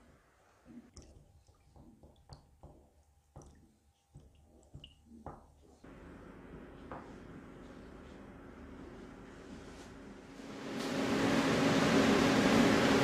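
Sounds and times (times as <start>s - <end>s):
low background hum: 0.0s - 12.8s.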